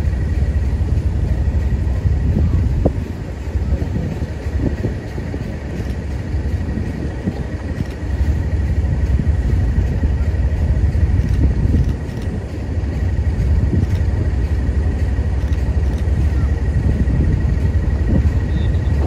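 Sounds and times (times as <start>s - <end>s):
train diesel engine rumble: 0.0s - 19.0s.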